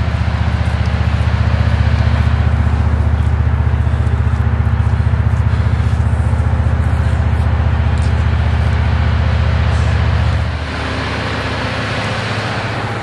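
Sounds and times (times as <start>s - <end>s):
motor pulsing hum: 0.0s - 13.0s.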